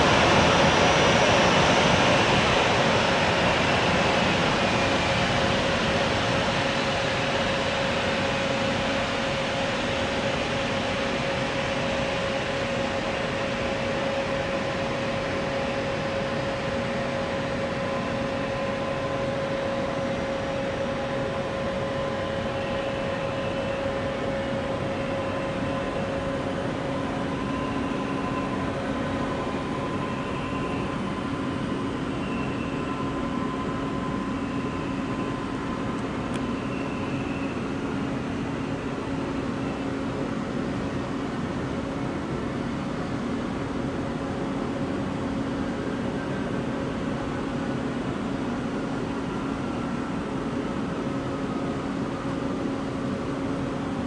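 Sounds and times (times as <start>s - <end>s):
jet turbine hiss and whine: 0.0s - 54.0s.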